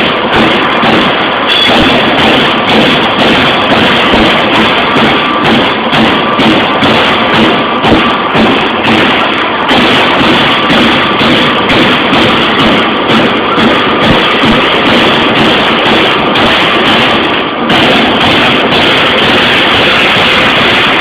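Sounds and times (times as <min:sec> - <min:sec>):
machine running noise: 0:00.0 - 0:21.0.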